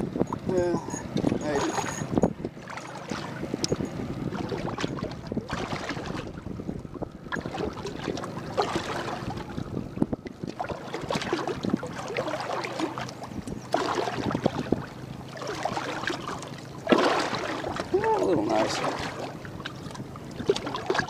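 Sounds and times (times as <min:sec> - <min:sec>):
water lapping and splashing: 0:00.0 - 0:21.0
wind buffeting microphone: 0:00.0 - 0:21.0.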